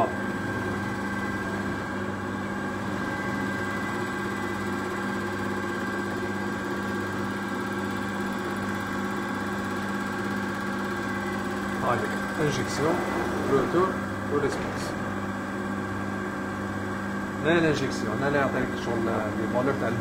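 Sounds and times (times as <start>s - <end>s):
test bench machine humming: 0.0s - 20.0s.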